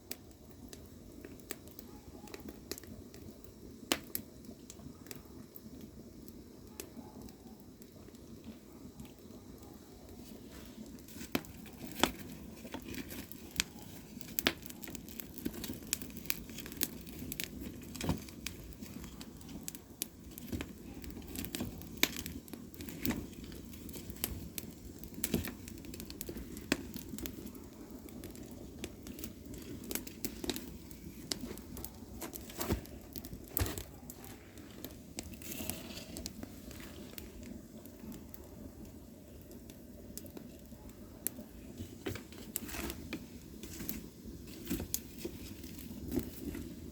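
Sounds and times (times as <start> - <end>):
firewood crackling and popping: 0.0 - 46.9
low rush of flame: 7.3 - 46.9.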